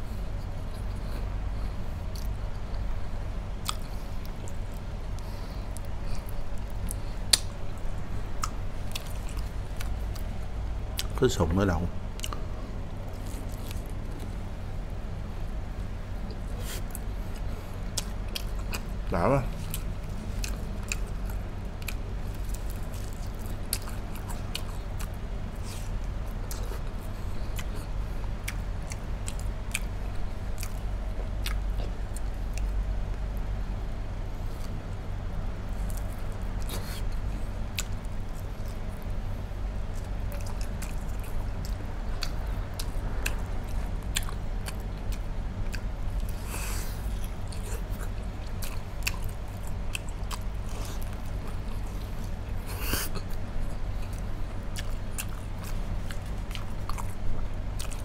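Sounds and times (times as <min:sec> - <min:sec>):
steady low hum: 0:00.0 - 0:58.0
chewing and mouth smacks: 0:02.1 - 0:02.9, 0:03.6 - 0:10.4, 0:11.0 - 0:11.2, 0:12.1 - 0:14.5, 0:16.2 - 0:33.3, 0:35.7 - 0:58.0.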